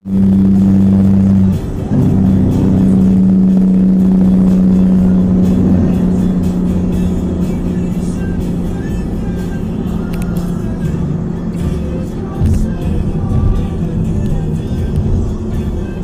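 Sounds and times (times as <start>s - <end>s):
highway traffic drone: 0.0s - 16.0s.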